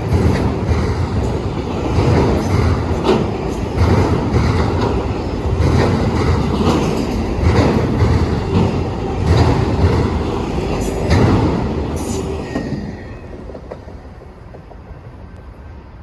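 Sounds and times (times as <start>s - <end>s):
freight train wheels clacking: 0.0s - 15.2s
train rumble: 0.0s - 16.0s.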